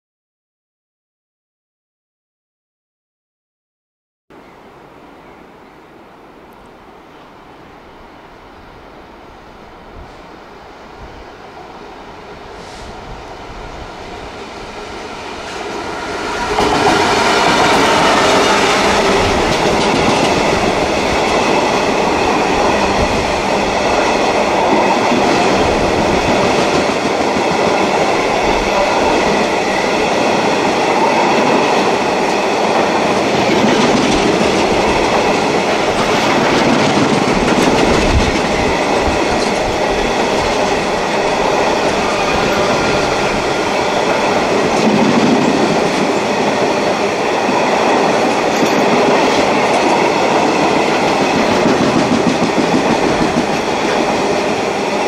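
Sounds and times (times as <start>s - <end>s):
diesel locomotive passing: 4.4s - 55.0s.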